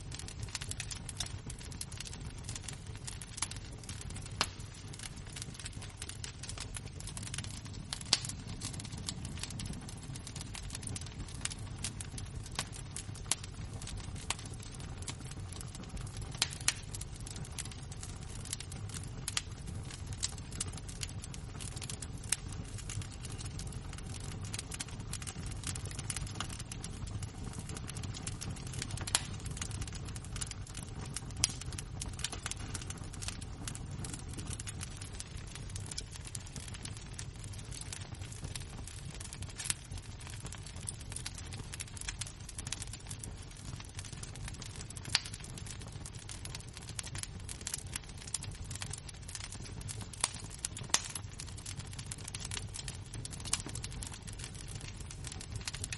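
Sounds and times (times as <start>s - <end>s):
wood embers crackling: 0.0s - 55.9s.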